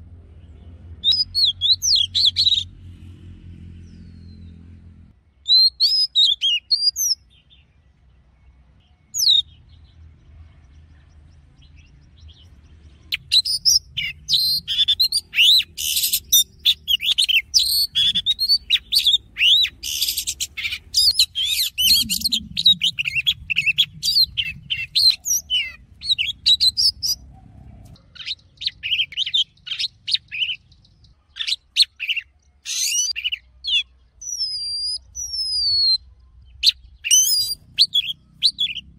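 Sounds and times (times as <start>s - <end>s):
bird singing whistled notes: 1.0s - 2.7s, 5.3s - 10.0s, 11.2s - 27.3s, 28.0s - 38.9s.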